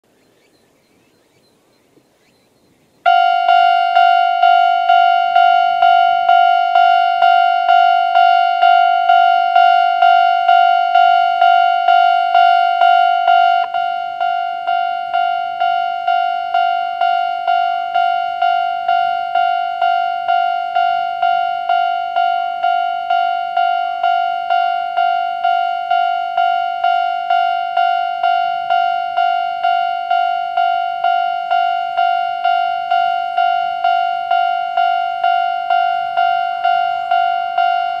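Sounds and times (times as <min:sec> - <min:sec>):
level-crossing warning bell: 0:03.0 - 0:38.0.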